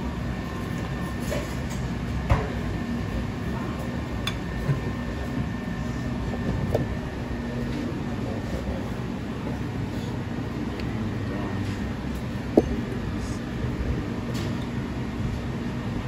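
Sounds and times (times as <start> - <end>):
steady machine drone: 0.0 - 16.0.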